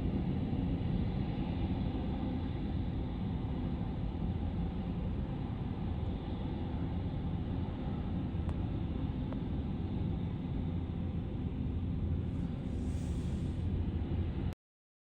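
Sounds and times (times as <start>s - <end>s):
jet engines rumbling: 0.1s - 14.6s.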